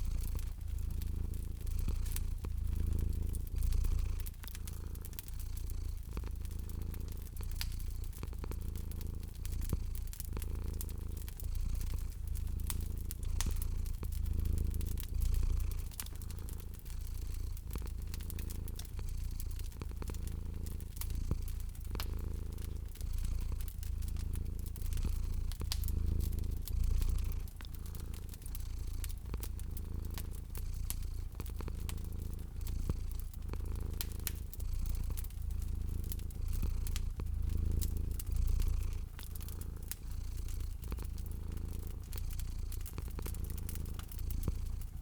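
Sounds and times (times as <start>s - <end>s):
cat purring: 0.0s - 45.0s
fireplace fire crackling: 0.0s - 45.0s.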